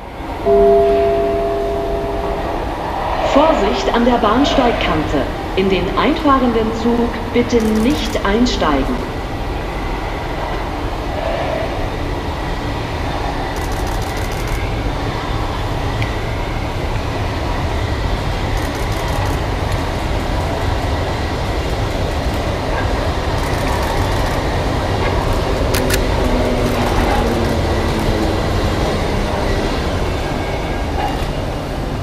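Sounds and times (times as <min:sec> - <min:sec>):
electric train rumbling: 0:00.0 - 0:32.0.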